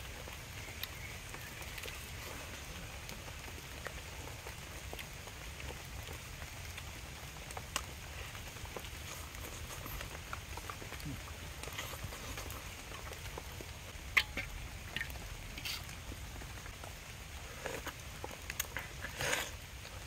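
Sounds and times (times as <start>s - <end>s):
rain on foliage and water: 0.0s - 20.0s
sharp drip-like ticks: 0.0s - 20.0s.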